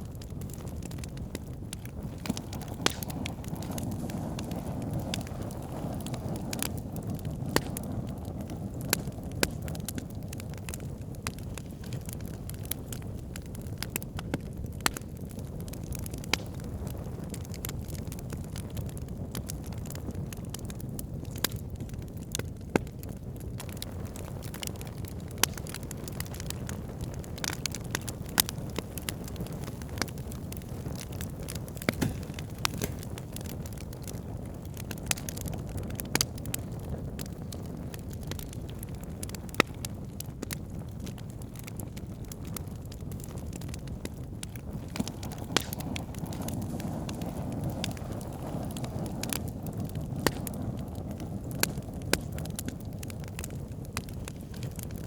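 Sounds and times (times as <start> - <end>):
campfire crackles and pops: 0.0 - 55.0
low rumble of flames: 0.0 - 55.0.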